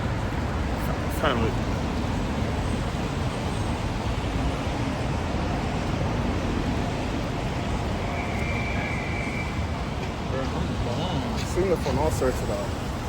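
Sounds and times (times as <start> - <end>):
city street noise: 0.0 - 13.0.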